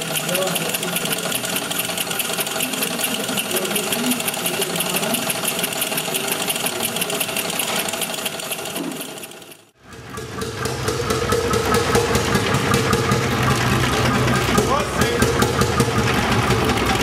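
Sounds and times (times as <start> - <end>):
sewing machine mechanical clatter: 0.0 - 17.0.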